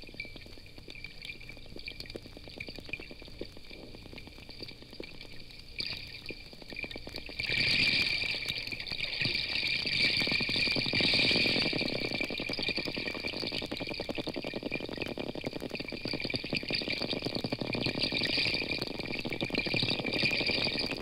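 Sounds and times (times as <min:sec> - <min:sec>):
porpoise clicks underwater: 0:00.0 - 0:21.0.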